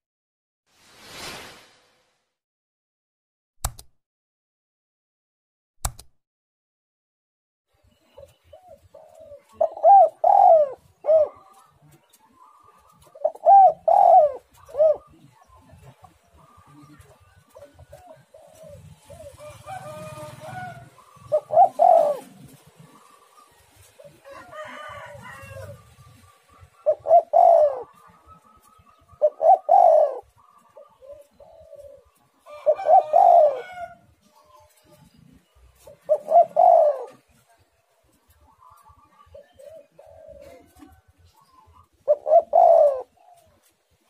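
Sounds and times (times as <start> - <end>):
dove cooing: 8.1 - 43.7.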